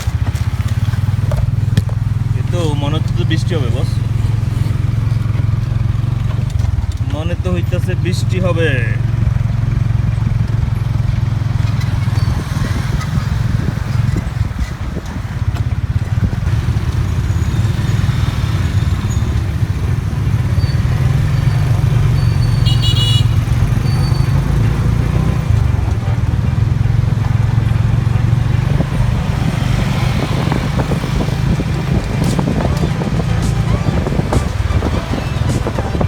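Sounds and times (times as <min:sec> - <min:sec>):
motorcycle engine running: 0:00.0 - 0:36.0
road noise: 0:00.0 - 0:36.0.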